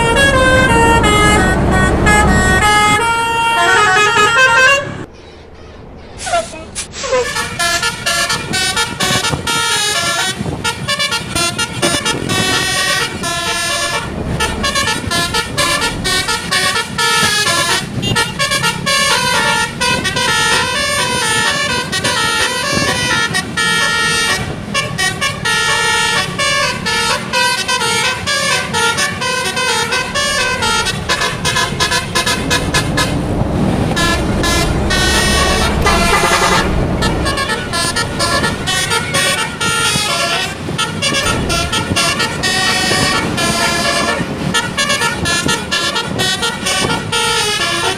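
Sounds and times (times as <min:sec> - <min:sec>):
musical bus horn melody: 0:00.0 - 0:05.1, 0:06.2 - 0:47.9.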